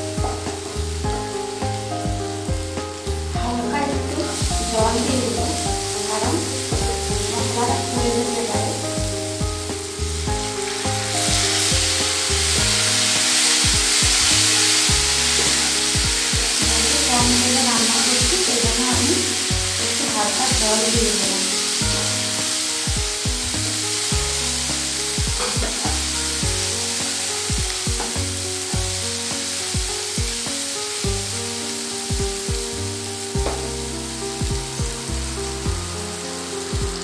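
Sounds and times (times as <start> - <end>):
background music with held notes: 0.0 - 37.0
masala sizzling in oil: 0.0 - 37.0.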